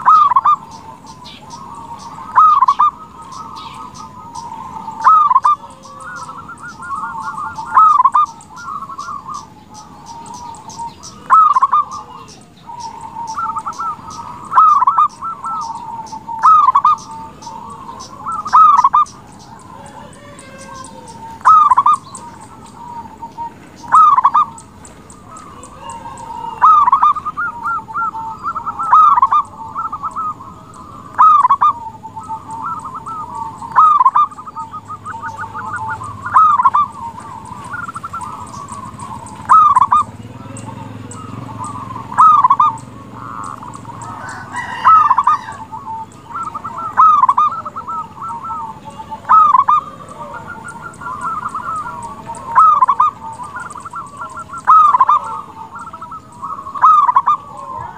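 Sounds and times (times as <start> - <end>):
dove cooing: 0.0 - 57.9
soft trilling coos: 0.0 - 57.9.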